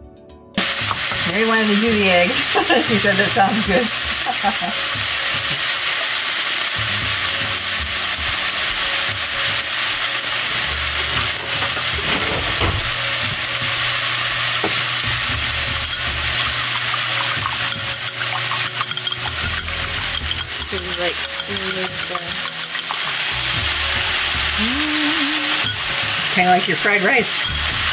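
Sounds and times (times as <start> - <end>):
filling sizzling in frying pan: 0.6 - 27.9.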